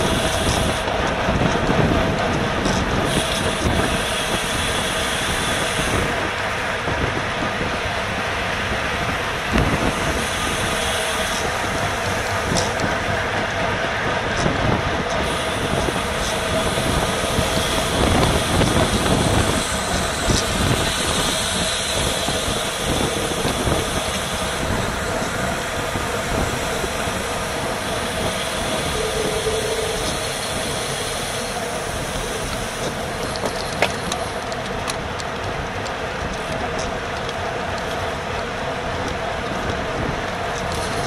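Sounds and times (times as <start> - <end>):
faint steady whine: 0.0 - 41.0
tyre and drivetrain hum: 0.0 - 41.0
wind rushing over microphone: 0.0 - 41.0.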